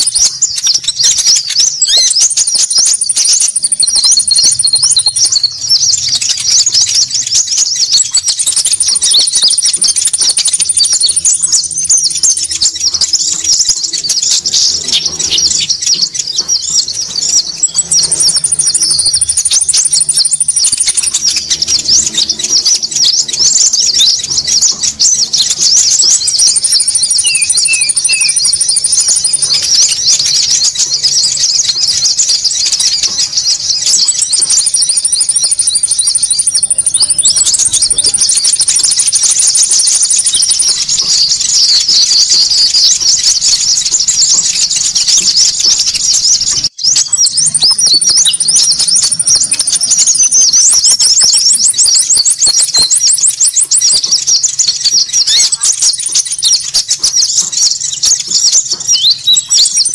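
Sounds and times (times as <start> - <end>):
chorus of small birds chirping: 0.0 - 59.9
rapid even bird trill: 0.0 - 59.9.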